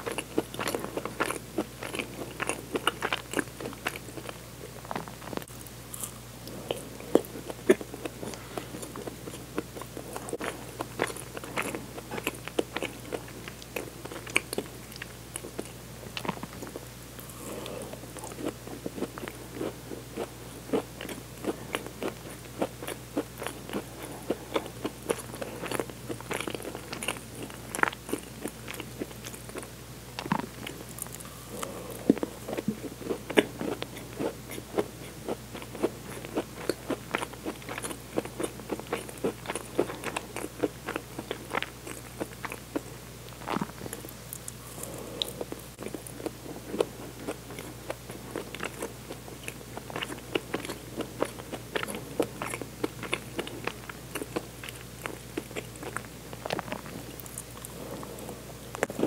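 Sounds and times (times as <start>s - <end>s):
biting and chewing food: 0.0s - 59.0s.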